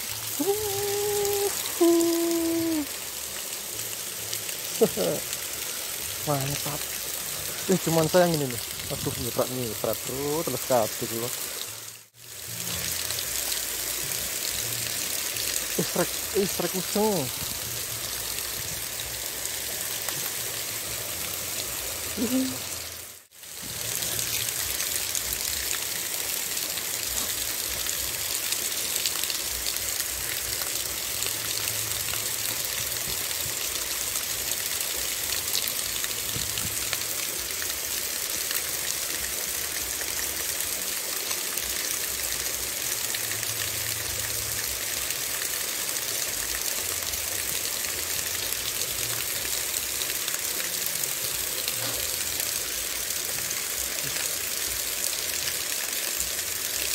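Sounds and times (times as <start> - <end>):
water spilling over weir: 0.0 - 56.9.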